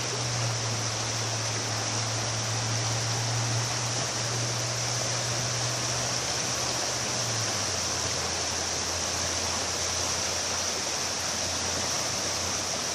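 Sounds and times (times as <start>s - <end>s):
river water rushing: 0.0s - 12.9s.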